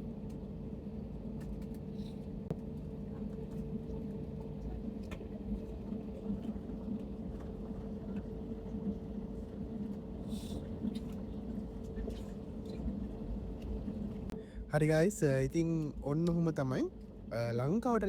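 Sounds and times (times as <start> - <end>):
airliner engine hum: 0.0 - 18.0.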